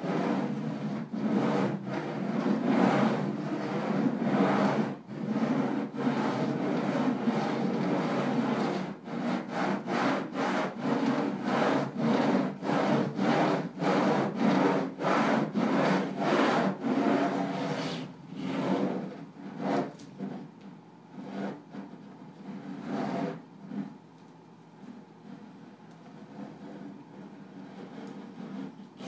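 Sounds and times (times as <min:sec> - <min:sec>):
pens scratching on paper: 0:00.0 - 0:20.5, 0:21.1 - 0:24.0, 0:24.8 - 0:29.0.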